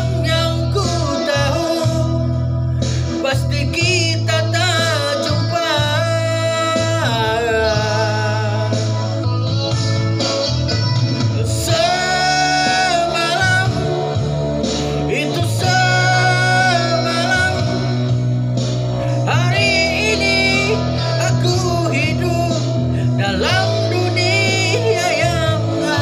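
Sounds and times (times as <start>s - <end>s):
band with guitar and bass: 0.0s - 26.0s
person singing long notes: 3.2s - 9.6s, 11.4s - 26.0s.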